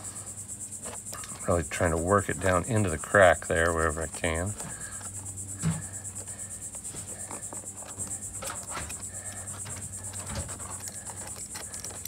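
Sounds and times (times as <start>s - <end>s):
crickets chirping: 0.0s - 12.0s
steady low hum: 0.0s - 12.0s.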